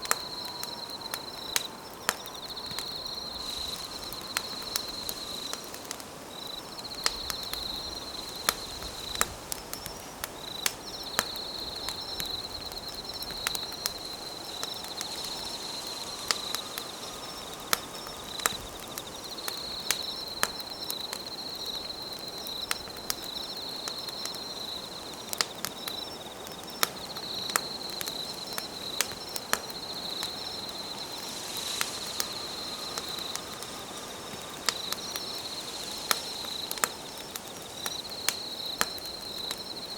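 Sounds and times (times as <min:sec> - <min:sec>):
insect trilling: 0:00.0 - 0:22.7, 0:26.0 - 0:39.9
campfire crackling and popping: 0:00.0 - 0:39.9.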